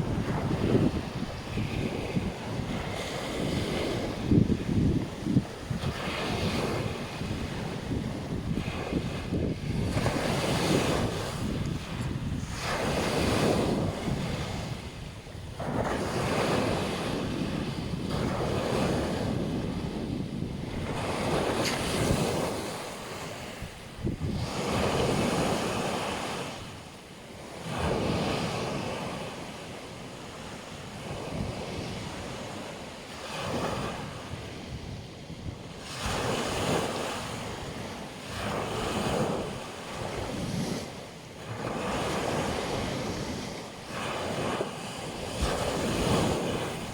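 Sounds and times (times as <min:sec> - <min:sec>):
surf breaking on a beach: 0:00.0 - 0:46.9.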